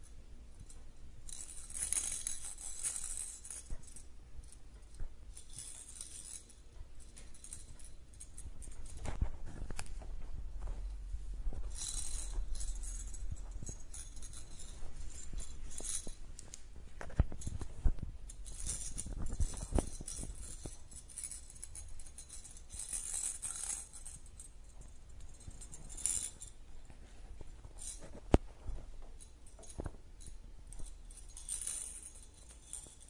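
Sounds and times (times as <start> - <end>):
toy ball beads rattling: 0.6 - 9.1, 11.6 - 26.6, 29.2 - 33.0.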